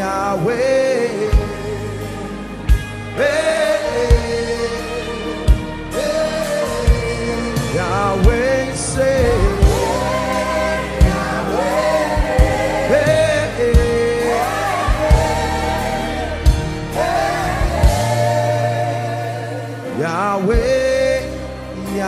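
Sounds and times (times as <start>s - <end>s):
voices singing: 0.0s - 22.0s
band with bass and kick drum: 1.3s - 19.8s.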